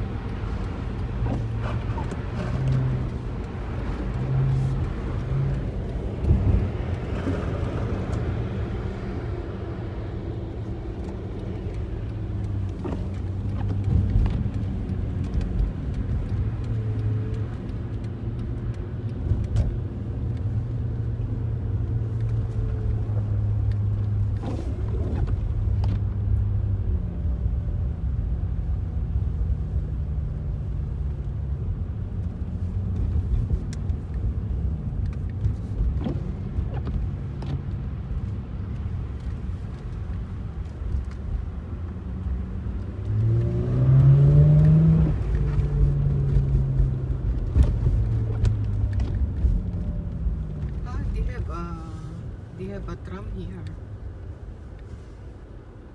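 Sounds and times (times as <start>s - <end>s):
car engine: 0.0s - 55.9s
road rumble: 0.0s - 55.9s.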